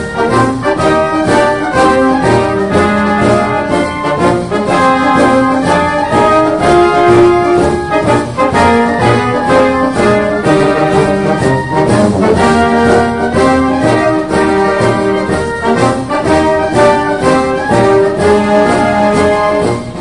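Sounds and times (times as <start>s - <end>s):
brass instruments playing melody: 0.0s - 20.0s.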